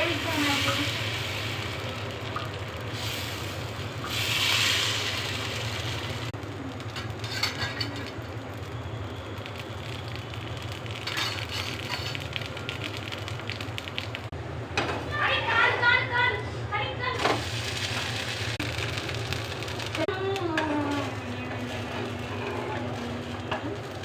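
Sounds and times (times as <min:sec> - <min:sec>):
batter sizzling on hot griddle: 0:00.0 - 0:14.3, 0:17.2 - 0:24.0.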